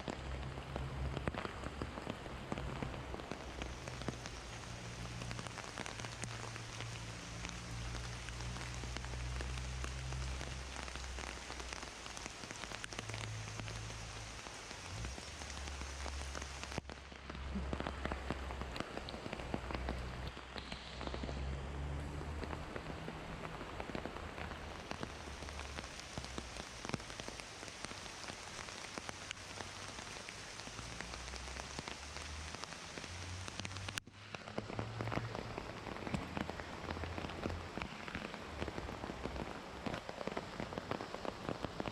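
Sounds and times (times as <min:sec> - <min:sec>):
heavy rain on foliage: 0:00.0 - 0:41.9.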